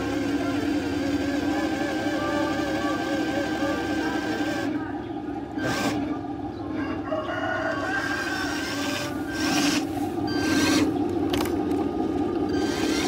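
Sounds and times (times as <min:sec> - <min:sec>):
pump motor humming: 0:00.0 - 0:13.0.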